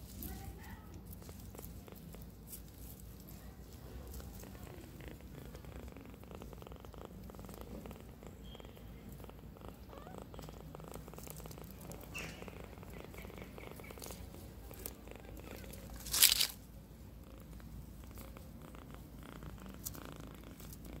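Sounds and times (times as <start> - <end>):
kitten purring loudly: 0.3 - 21.0.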